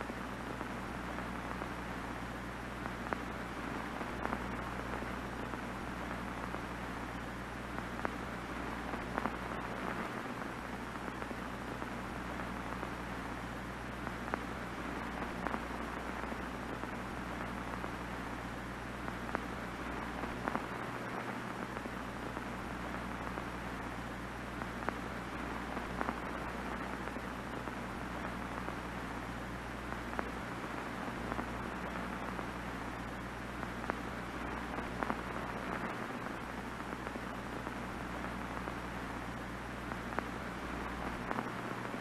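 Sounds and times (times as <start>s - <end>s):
low steady hum: 0.0s - 42.0s
small crackles: 0.0s - 42.0s
television static hiss: 0.0s - 42.0s.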